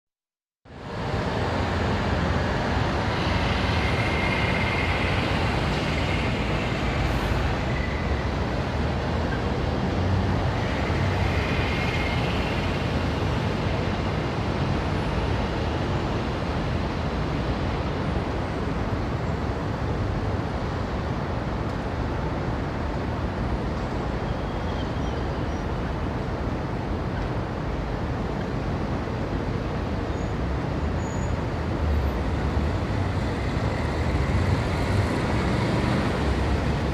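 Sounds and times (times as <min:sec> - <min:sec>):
street traffic passing: 0:00.7 - 0:36.9.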